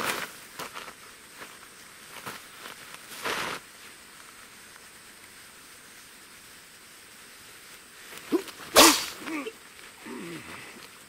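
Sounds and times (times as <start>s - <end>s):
faint steady hiss: 0.0s - 11.0s
short rustle: 0.0s - 11.0s.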